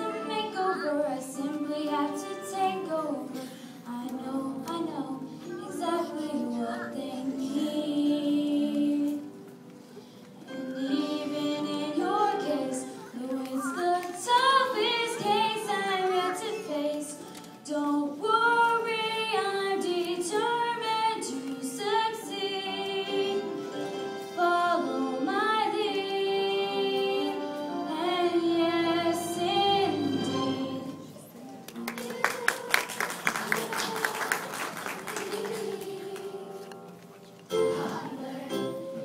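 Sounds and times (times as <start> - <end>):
girls singing: 0.0 - 9.5, 10.5 - 39.0.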